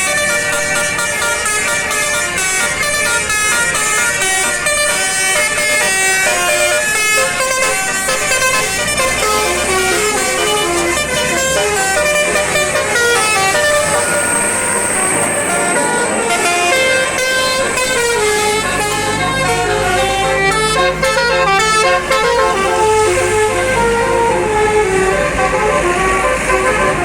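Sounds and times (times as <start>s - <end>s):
multi-tone air horn melody: 0.0s - 27.0s.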